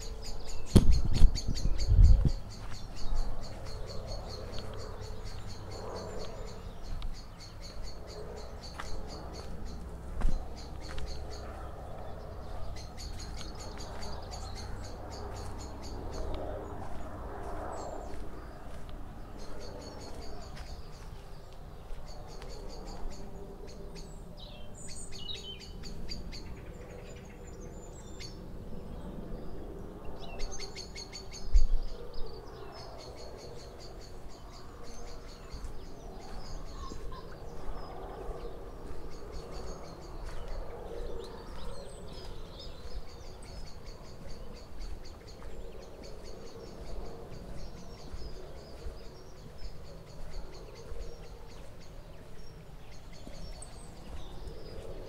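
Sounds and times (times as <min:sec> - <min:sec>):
birds chirping trills: 0:00.0 - 0:55.0.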